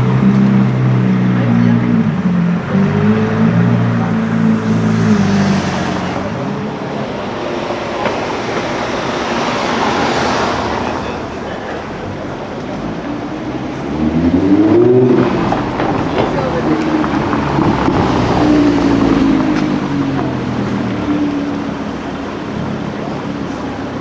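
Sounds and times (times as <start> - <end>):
car engine running: 0.0 - 24.0
engine revving up: 0.0 - 24.0
traffic and tyre noise: 0.0 - 24.0.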